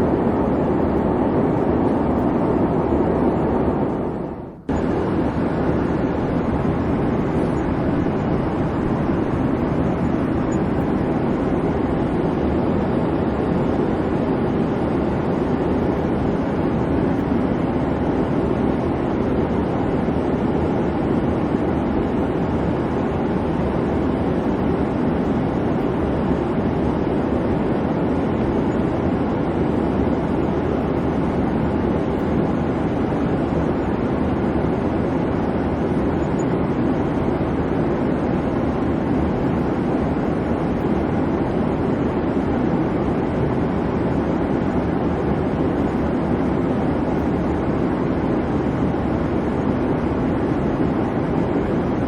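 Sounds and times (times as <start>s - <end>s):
airliner cabin noise: 0.0s - 52.0s.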